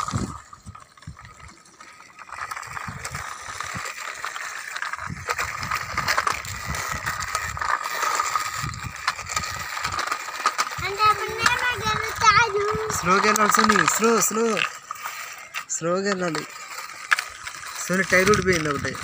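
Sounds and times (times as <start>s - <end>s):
plastic toy wheels rolling on concrete: 0.0s - 19.0s.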